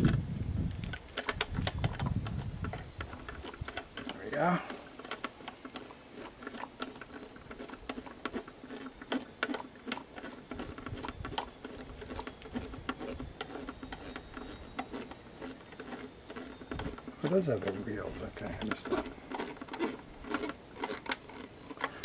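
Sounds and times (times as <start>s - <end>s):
screwdriver clicking and scraping: 0.0s - 22.0s.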